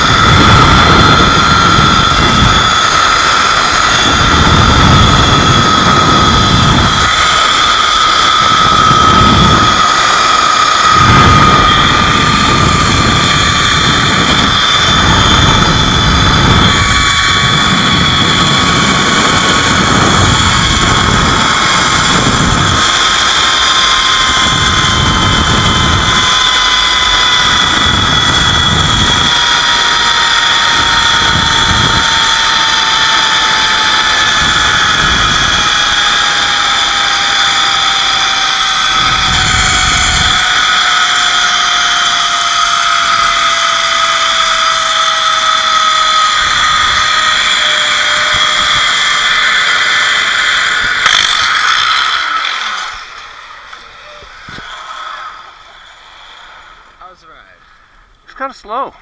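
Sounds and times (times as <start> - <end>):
wind buffeting microphone: 0.0 - 58.4
trolley wheels whining on cable: 0.0 - 59.0.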